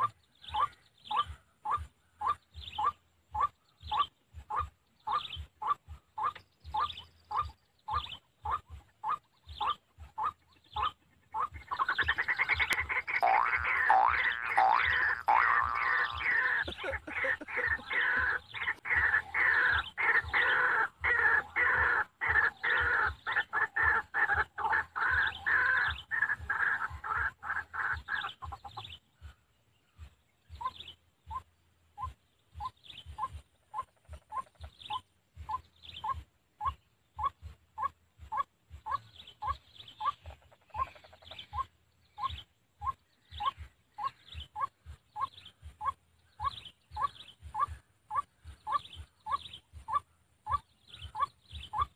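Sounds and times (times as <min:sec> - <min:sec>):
waterhen harsh repeated calls: 0:00.0 - 0:29.4, 0:30.0 - 0:51.9.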